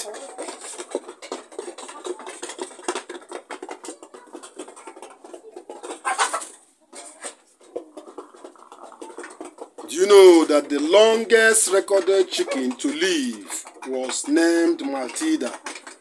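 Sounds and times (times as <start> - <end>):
pattering of small taps: 0.0 - 5.9, 7.7 - 16.0
chickens clucking: 0.0 - 16.0.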